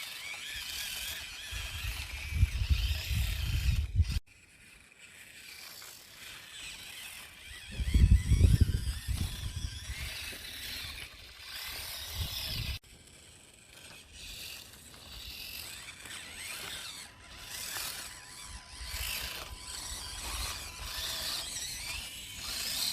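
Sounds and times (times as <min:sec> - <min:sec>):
small electric motor whining: 0:00.0 - 0:22.9.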